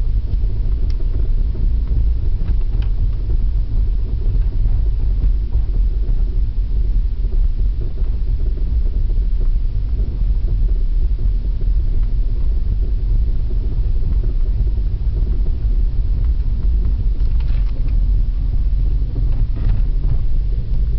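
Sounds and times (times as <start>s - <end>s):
car low rumble: 0.0s - 20.9s.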